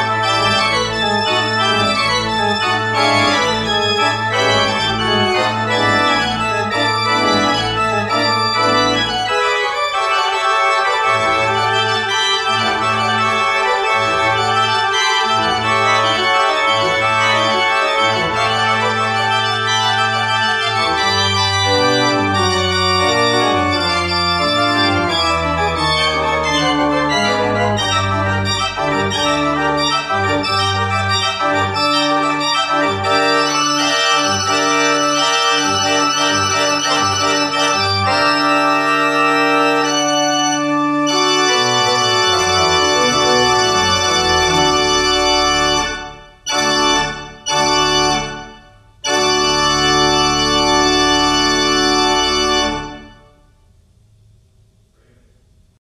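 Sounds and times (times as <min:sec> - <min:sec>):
church organ playing chords: 0:00.0 - 0:53.5.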